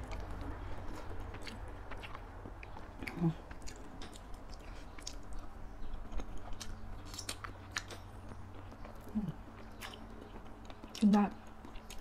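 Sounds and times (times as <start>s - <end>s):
chewing soft food: 0.0s - 12.0s.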